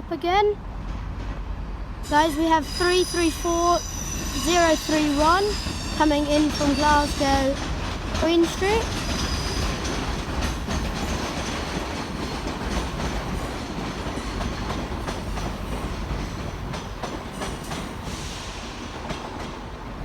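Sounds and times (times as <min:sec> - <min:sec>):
train rumble: 0:00.0 - 0:20.0
train wheels clicking over rail joints: 0:03.5 - 0:20.0.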